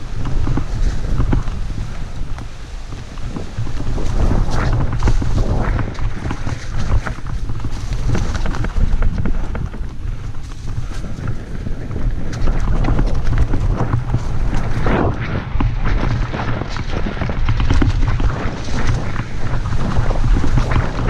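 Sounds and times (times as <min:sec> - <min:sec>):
bike rattling and knocking: 0:00.0 - 0:21.0
bike tyres on dirt: 0:00.0 - 0:21.0
wind rumble on microphone: 0:00.0 - 0:21.0.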